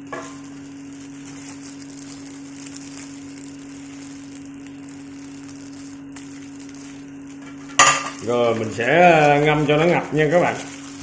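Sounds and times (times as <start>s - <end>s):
low hum with faint hiss: 0.0s - 11.0s.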